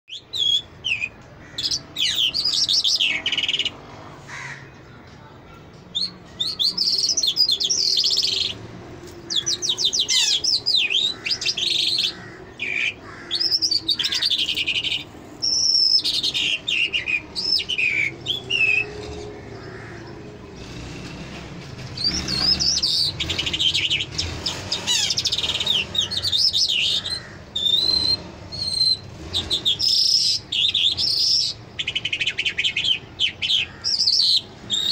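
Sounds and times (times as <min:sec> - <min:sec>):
lark singing warbling song: 0:00.1 - 0:03.8, 0:05.9 - 0:20.3, 0:22.0 - 0:34.9.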